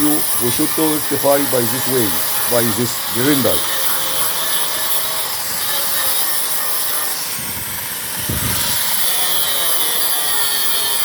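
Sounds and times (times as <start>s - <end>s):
angle grinder grinding metal: 0.0s - 11.0s.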